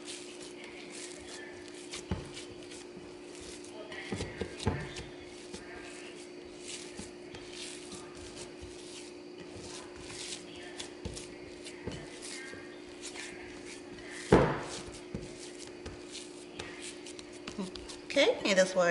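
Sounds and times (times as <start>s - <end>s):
hands squishing dough: 0.0s - 18.2s
steady hum: 0.0s - 18.9s.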